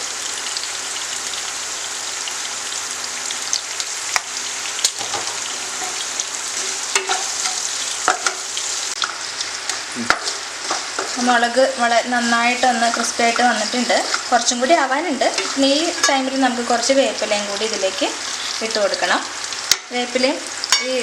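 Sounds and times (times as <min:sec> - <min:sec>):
chillies sizzling in hot oil: 0:00.0 - 0:21.0.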